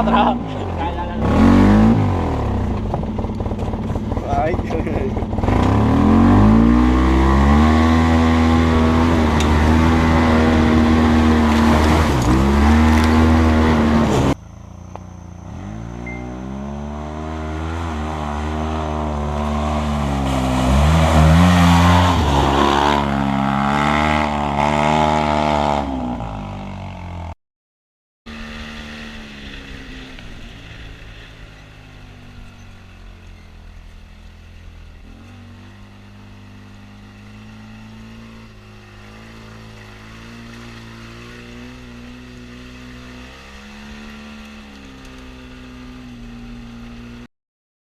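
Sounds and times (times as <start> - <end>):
off-road vehicle engine running: 0.0 - 27.3, 28.3 - 47.3.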